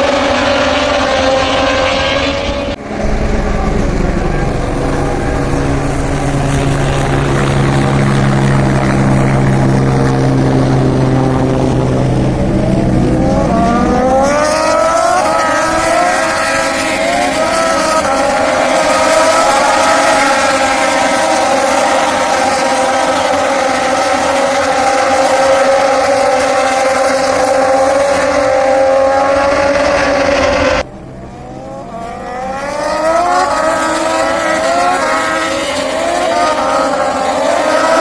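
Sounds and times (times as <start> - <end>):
racing motorcycle engines at high revs: 0.0 - 38.0.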